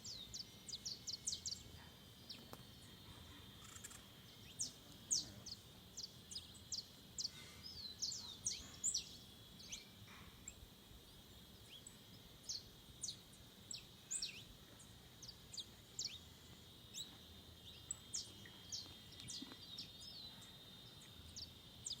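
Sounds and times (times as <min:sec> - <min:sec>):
birds calling with sharp notes: 0:00.0 - 0:22.0
high insect buzz: 0:02.2 - 0:22.0.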